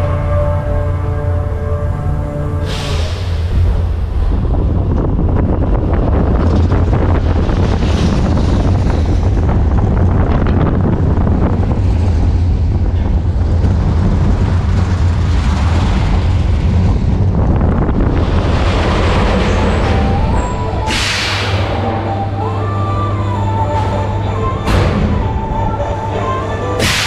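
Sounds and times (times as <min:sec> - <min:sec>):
wind buffeting microphone: 0:00.0 - 0:26.8
roller coaster wheels rumbling on track: 0:00.0 - 0:27.0.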